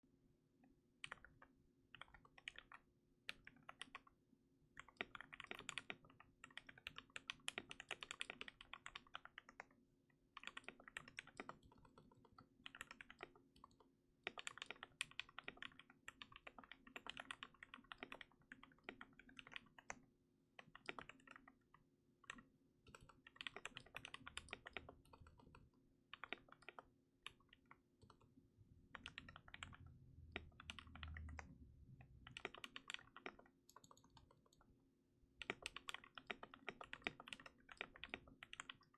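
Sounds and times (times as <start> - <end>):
mechanical keyboard typing: 1.0 - 1.4, 2.0 - 4.1, 4.8 - 9.7, 10.3 - 20.0, 20.6 - 28.3, 28.9 - 34.7, 35.4 - 38.9.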